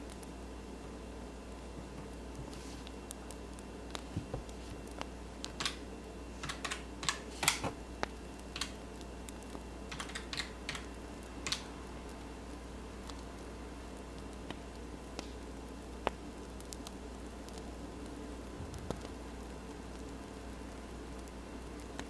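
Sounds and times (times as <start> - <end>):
steady low hum: 0.0 - 22.0
wood fire crackling: 0.0 - 22.0.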